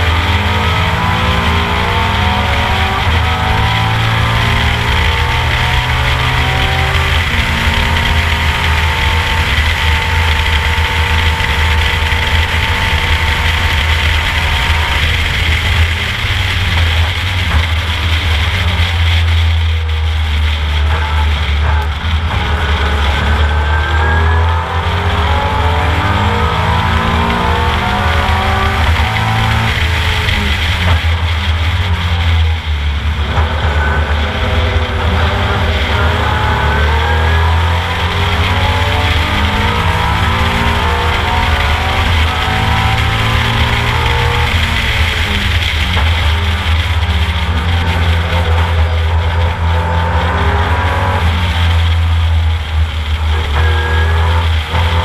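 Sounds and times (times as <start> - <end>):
race car engine drone: 0.0 - 55.0
road and wind noise: 0.0 - 55.0.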